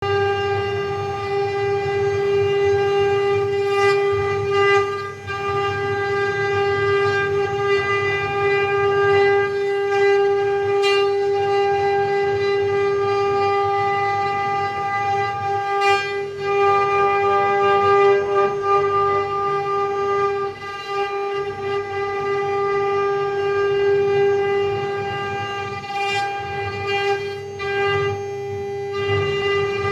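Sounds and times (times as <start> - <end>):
cnc spindle whine: 0.0 - 29.9.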